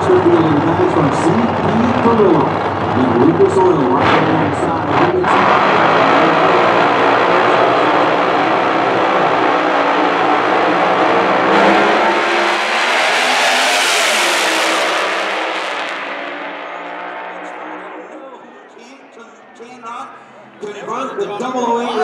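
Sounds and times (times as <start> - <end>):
drag racing cars accelerating: 0.0 - 19.2.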